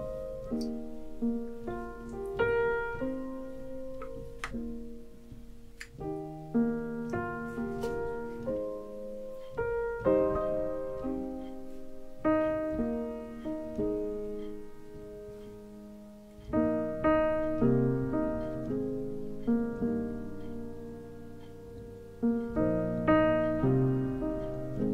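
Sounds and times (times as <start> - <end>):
gentle piano chords: 0.0 - 24.9.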